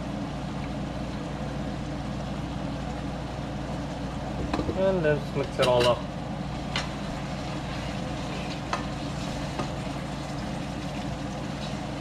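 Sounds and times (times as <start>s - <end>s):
gravy sizzling in a pan: 0.0s - 12.0s
steady low hum: 0.0s - 12.0s.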